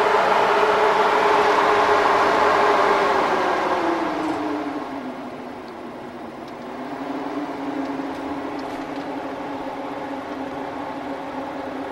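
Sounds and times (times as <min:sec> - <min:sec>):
electric fan humming: 0:00.0 - 0:11.9.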